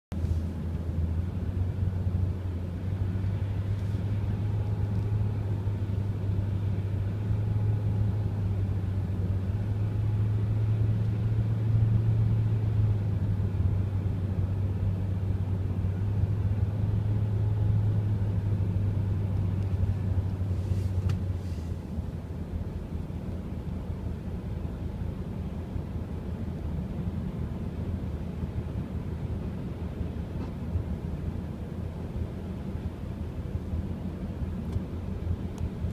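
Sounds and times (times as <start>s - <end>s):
car cabin engine and road noise: 0.1s - 35.9s.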